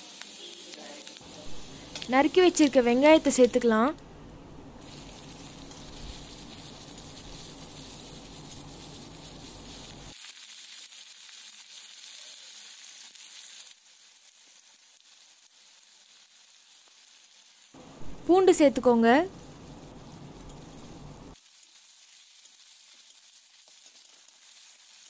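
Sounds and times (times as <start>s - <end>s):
onions sizzling in oil: 0.0s - 4.0s, 4.7s - 25.0s.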